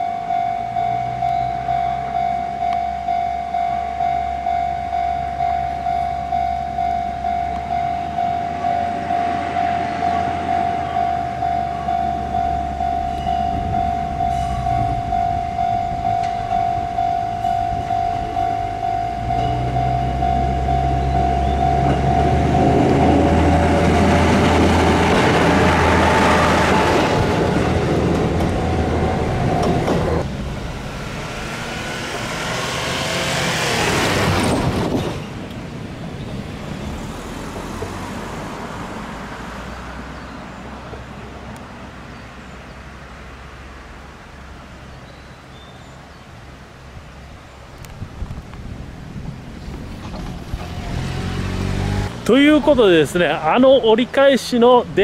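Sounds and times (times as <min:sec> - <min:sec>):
diesel railcar passing: 0:00.0 - 0:55.0.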